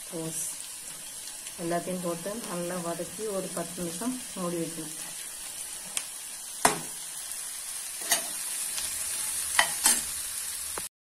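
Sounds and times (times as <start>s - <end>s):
vegetables sizzling in hot oil: 0.0s - 10.9s.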